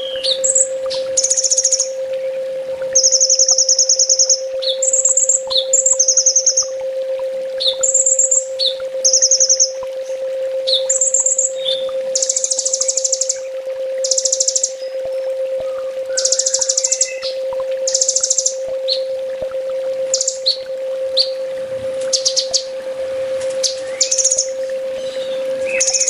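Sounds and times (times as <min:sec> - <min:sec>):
sunbird singing rapid trills: 0:00.0 - 0:02.4, 0:03.0 - 0:06.8, 0:07.6 - 0:19.2, 0:20.1 - 0:21.4, 0:22.0 - 0:22.8, 0:23.4 - 0:26.0
steady low hum: 0:00.0 - 0:26.0.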